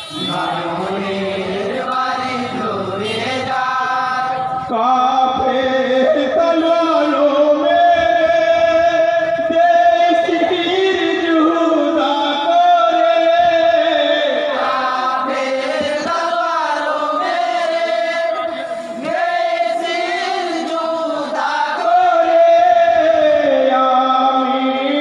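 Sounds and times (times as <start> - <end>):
men chanting a lament song: 0.0 - 25.0.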